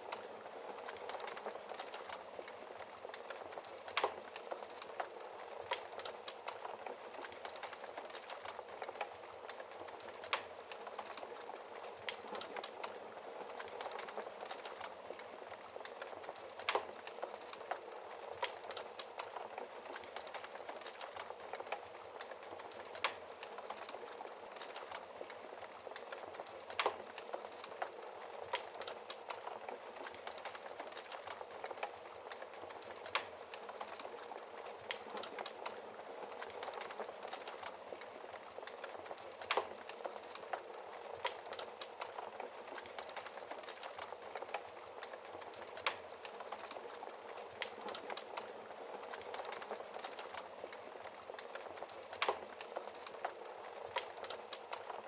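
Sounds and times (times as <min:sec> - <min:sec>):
fire hissing and crackling: 0:00.0 - 0:55.0
fire popping: 0:00.0 - 0:55.0.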